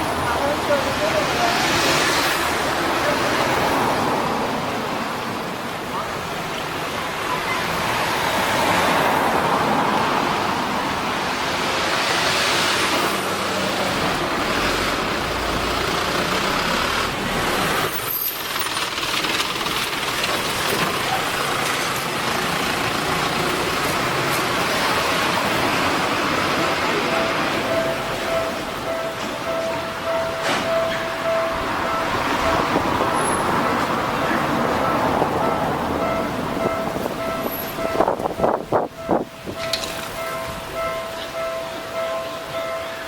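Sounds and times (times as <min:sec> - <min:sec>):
cars and trucks passing: 0:00.0 - 0:43.0.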